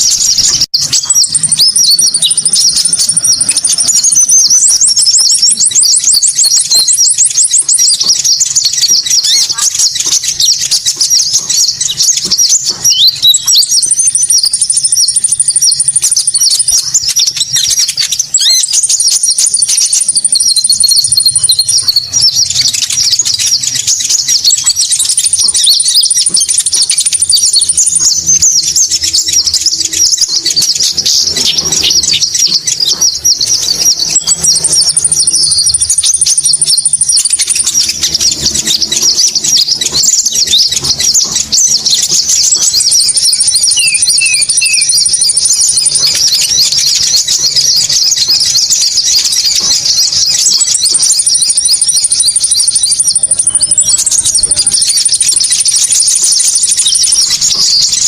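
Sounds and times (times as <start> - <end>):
birds chattering with high chirps: 0.0 - 58.0.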